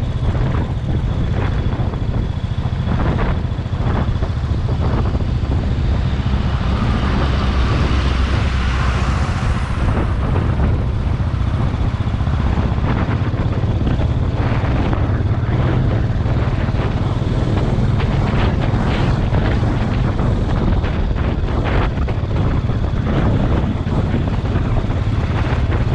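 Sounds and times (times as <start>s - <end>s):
motorcycle engine droning: 0.0s - 25.9s
road and wind noise: 0.0s - 25.9s.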